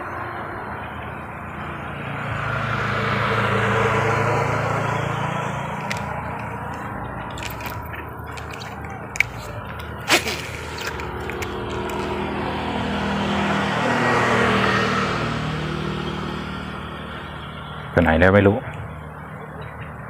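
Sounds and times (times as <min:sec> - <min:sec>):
motor engine passing by: 0:00.0 - 0:20.0
steady outdoor background: 0:00.0 - 0:20.0.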